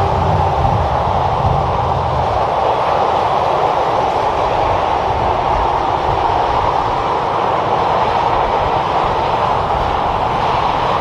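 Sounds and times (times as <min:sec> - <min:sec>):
highway traffic: 0:00.0 - 0:11.0.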